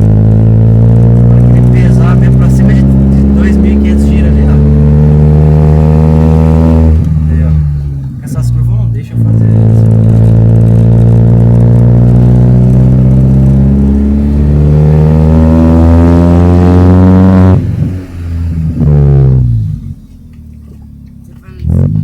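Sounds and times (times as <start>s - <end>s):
car engine with straight pipe exhaust: 0.0s - 22.0s.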